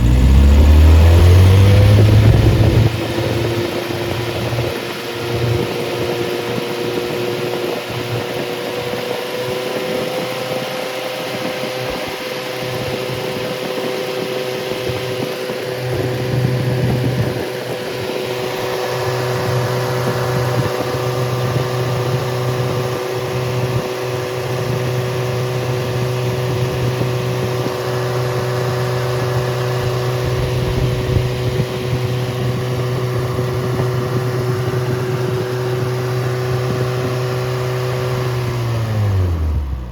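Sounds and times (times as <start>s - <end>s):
loud car engine running: 0.0s - 39.9s.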